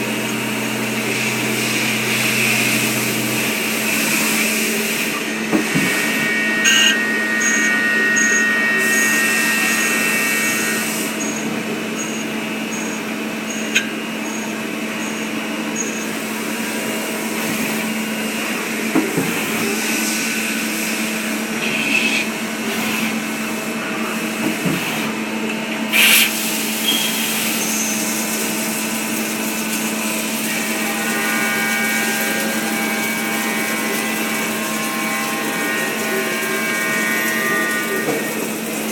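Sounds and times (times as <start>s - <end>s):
lathe machine hum and whine: 0.0s - 38.9s.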